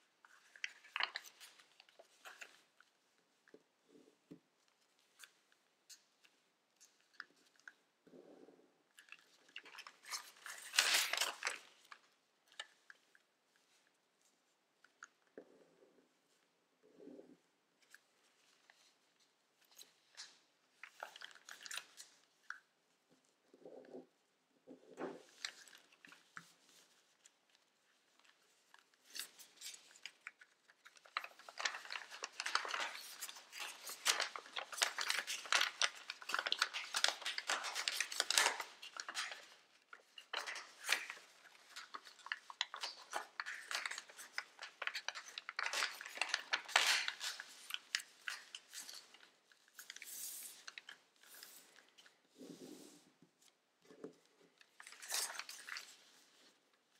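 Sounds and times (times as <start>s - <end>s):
paper being folded and creased: 0.0s - 7.8s, 8.9s - 15.2s, 17.8s - 24.1s, 25.0s - 56.9s.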